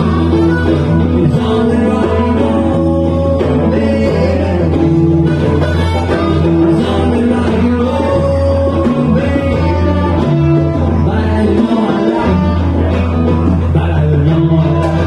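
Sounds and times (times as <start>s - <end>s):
didgeridoo drone: 0.0s - 15.0s
guitars playing: 0.0s - 15.0s.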